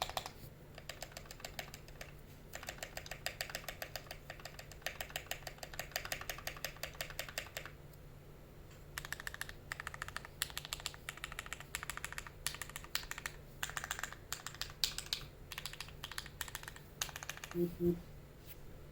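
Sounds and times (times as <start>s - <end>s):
fast typing on mechanical keyboard: 0.0s - 7.8s, 9.0s - 17.6s.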